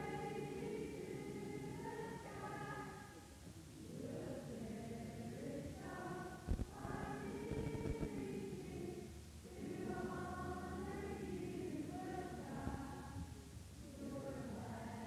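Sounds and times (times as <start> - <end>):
group of voices singing: 0.0 - 3.2, 3.8 - 15.0.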